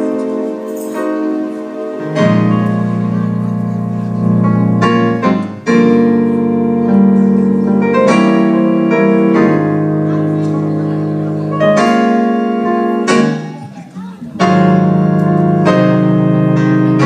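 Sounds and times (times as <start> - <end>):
keyboard playing held chords: 0.0 - 17.0.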